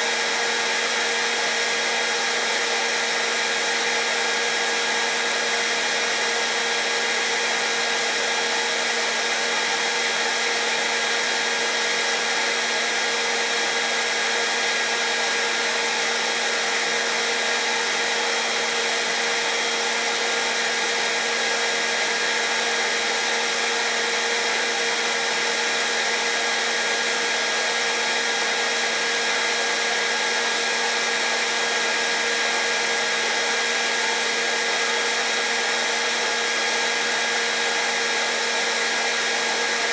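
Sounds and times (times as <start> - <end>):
hairdryer running: 0.0 - 39.9.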